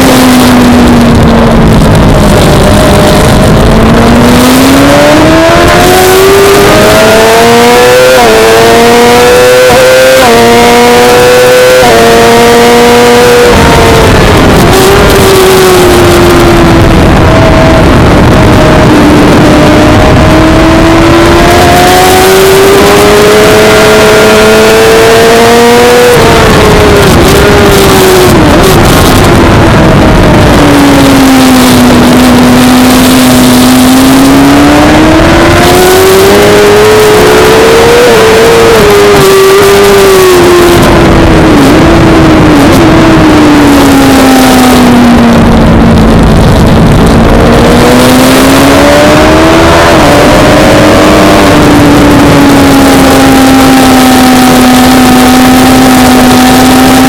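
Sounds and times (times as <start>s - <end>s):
racing motorcycle engine: 0.0s - 57.0s.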